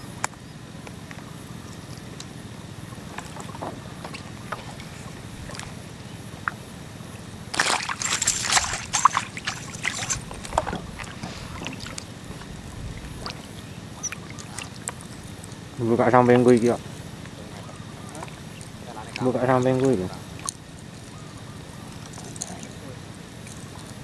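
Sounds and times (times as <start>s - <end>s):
steady low background noise: 0.0s - 24.0s
water sloshing and splashing: 2.8s - 24.0s.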